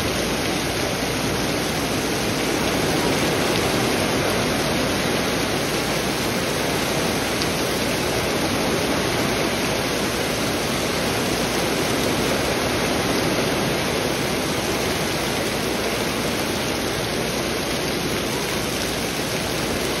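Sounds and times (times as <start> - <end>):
heavy rain on grass: 0.0 - 20.0.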